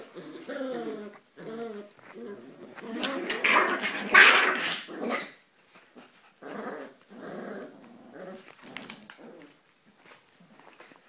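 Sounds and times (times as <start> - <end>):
dogs growling in play: 0.0 - 9.7.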